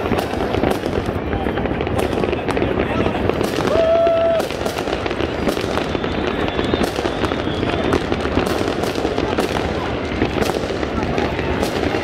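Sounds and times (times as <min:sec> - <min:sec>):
crowd voices: 0:00.0 - 0:12.0
fireworks crackling and popping: 0:00.0 - 0:12.0.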